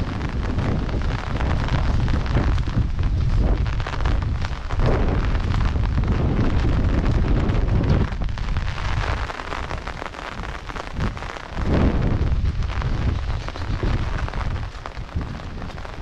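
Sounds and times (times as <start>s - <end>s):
rain hissing: 0.0s - 16.0s
wind buffeting microphone: 0.0s - 16.0s.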